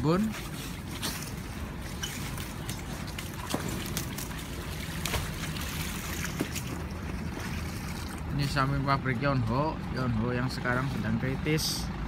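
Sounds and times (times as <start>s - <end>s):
water sloshing and splashing: 0.0s - 11.7s.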